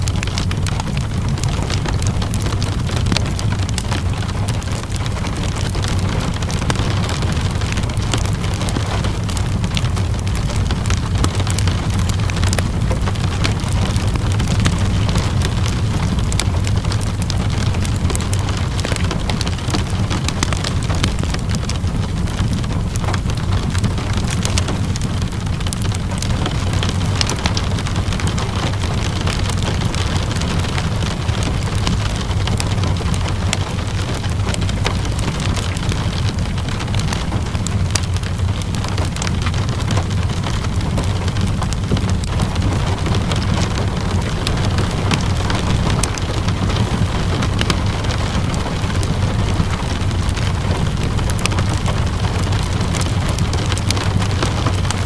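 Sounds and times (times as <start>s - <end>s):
low even rumble: 0.0s - 55.0s
steady rain: 0.0s - 55.0s
wood fire crackling: 0.0s - 55.0s.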